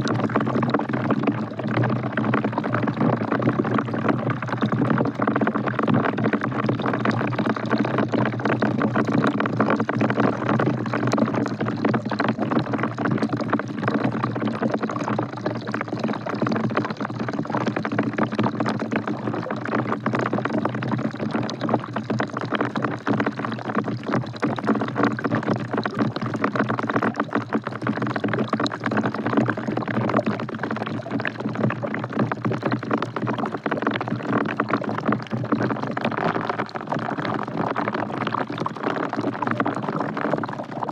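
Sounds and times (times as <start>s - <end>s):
rain dripping into bucket water: 0.0s - 40.9s.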